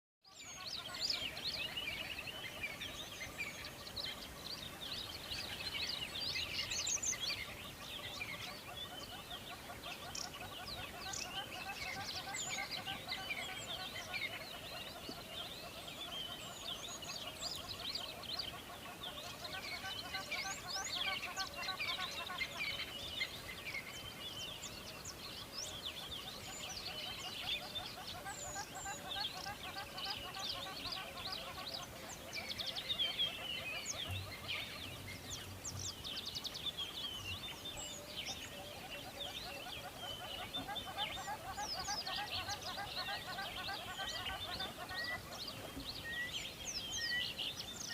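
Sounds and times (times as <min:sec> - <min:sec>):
birds chirping: 0:00.3 - 0:47.9.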